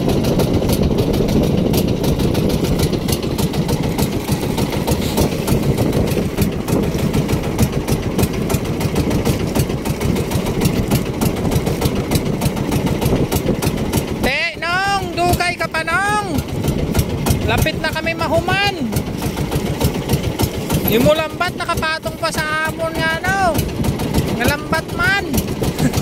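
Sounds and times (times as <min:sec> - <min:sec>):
boat engine rumbling: 0:00.0 - 0:26.0.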